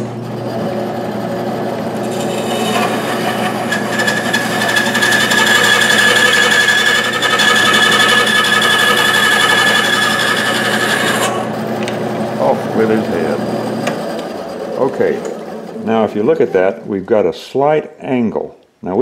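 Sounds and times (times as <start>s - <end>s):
bandsaw cutting wood: 0.0s - 17.0s.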